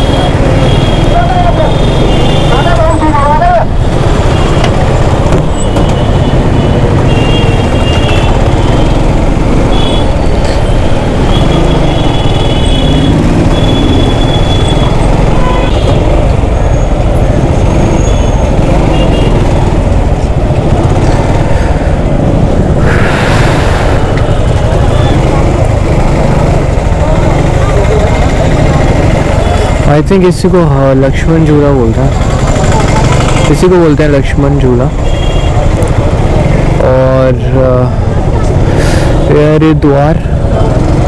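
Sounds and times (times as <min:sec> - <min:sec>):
traffic engines rumbling: 0:00.0 - 0:41.0.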